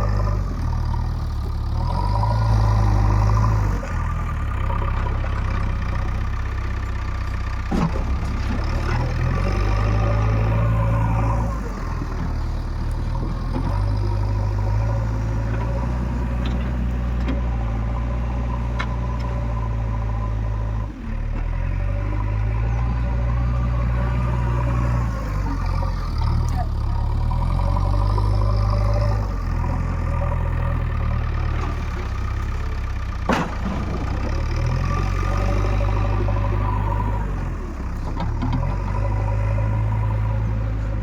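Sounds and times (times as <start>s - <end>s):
diesel digger engine working: 0.0s - 41.0s.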